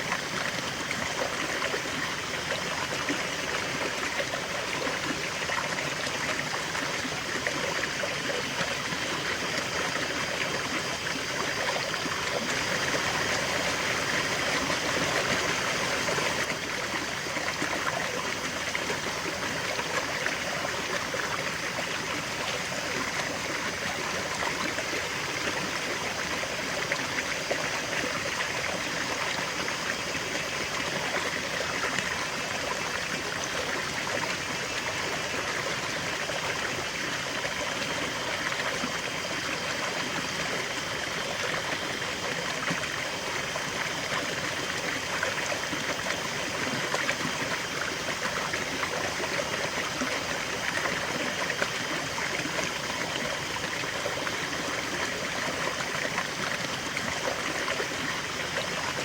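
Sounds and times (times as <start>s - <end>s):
river water babbling over stones: 0.0s - 59.0s.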